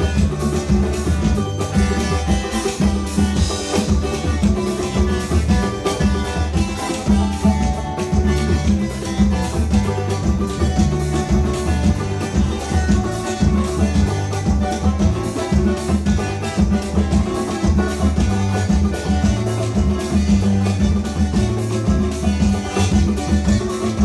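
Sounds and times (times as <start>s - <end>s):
bass: 0.0s - 24.0s
steady drum beat: 0.0s - 24.0s.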